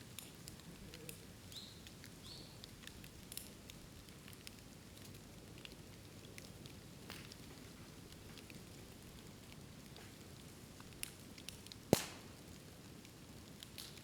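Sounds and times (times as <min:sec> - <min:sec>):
bamboo bonfire crackling: 0:00.0 - 0:14.0.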